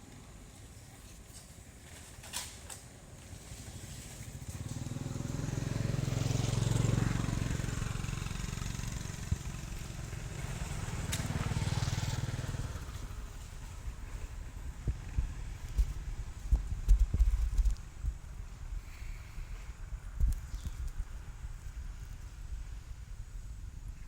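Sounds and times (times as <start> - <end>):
vehicle engine rumbling past: 3.2 - 24.0.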